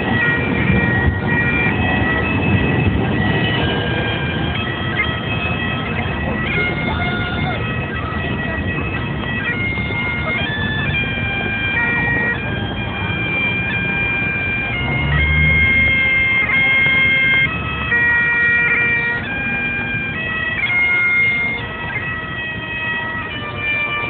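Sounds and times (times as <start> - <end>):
bagpipes playing a tune: 0.0 - 24.0
low street noise: 0.0 - 24.0.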